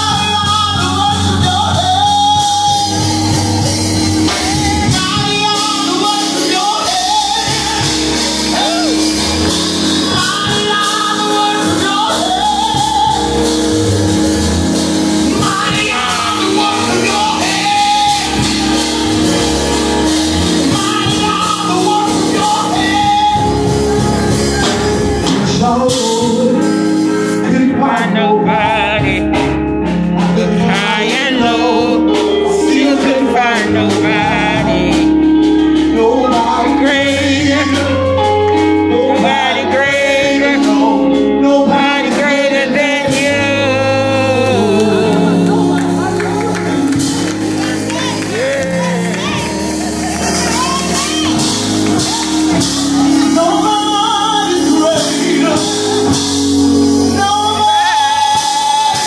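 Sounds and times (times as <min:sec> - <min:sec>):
backing music: 0:00.0 - 0:59.0
man singing gospel: 0:00.0 - 0:59.0.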